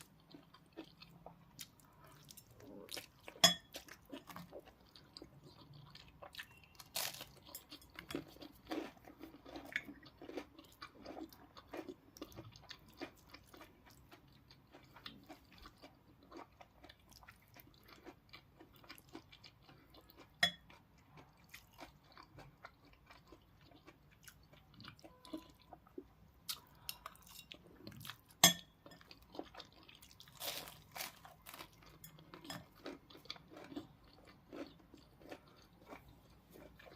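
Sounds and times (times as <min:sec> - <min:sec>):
crunchy chewing: 0:00.0 - 0:36.9.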